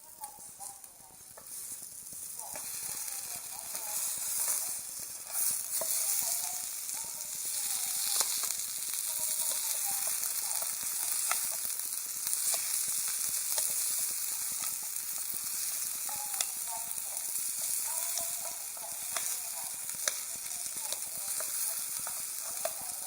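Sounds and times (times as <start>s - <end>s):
fire crackling and hissing: 0.0s - 23.0s.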